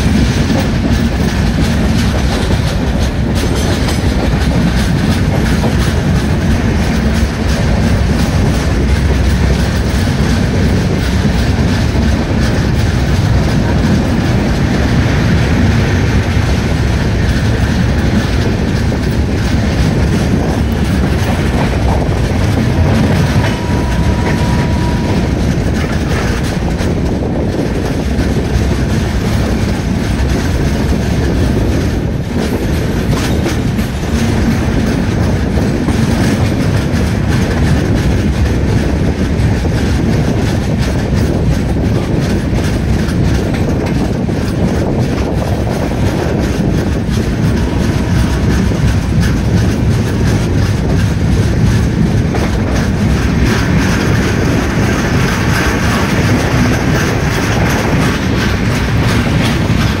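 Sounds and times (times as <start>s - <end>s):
freight train rattling past: 0.0s - 60.0s
train wheels rumbling on rails: 0.0s - 60.0s.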